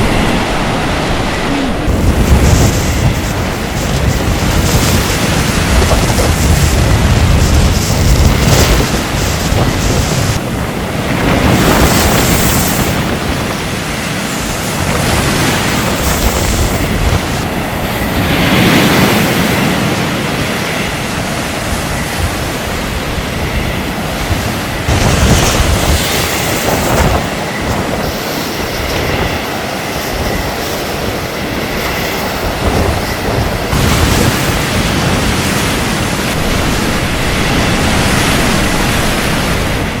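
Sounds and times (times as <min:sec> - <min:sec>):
waves breaking and crashing: 0:00.0 - 0:40.0.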